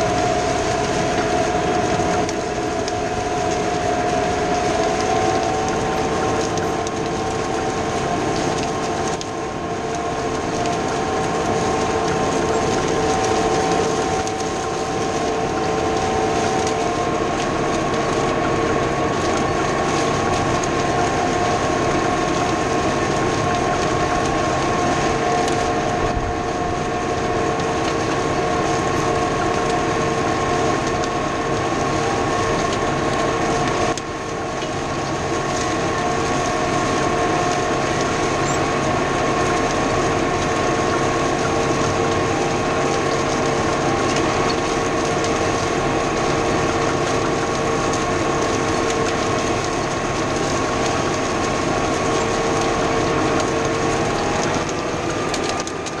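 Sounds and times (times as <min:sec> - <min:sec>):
engine whine: 0:00.0 - 0:56.0
tractor diesel engine under load: 0:00.0 - 0:56.0.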